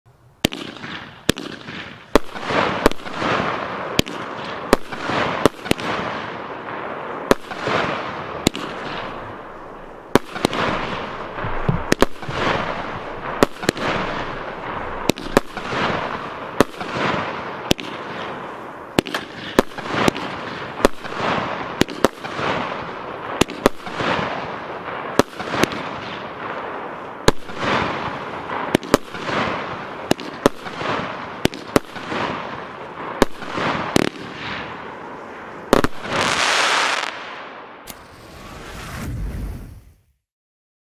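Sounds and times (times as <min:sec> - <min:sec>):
firework battery firing: 0:00.4 - 0:39.8
firework bursts: 0:00.4 - 0:40.2.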